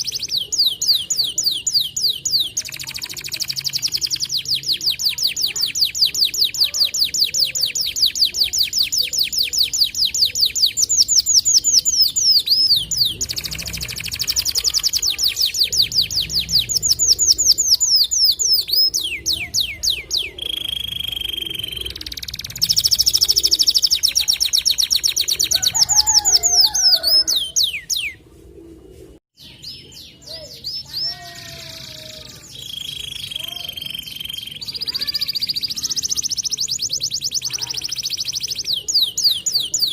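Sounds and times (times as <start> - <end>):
canary singing rapid trills: 0.0 - 28.2, 29.4 - 39.9.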